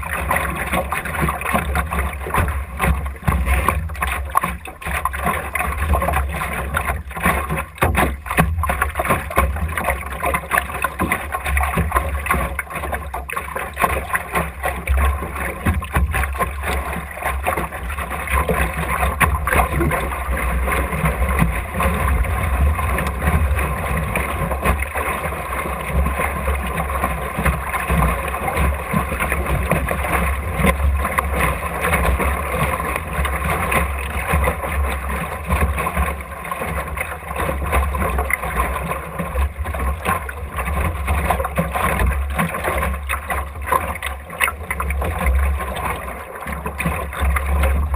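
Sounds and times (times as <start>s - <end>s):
water slapping against hull: 0.0s - 47.9s.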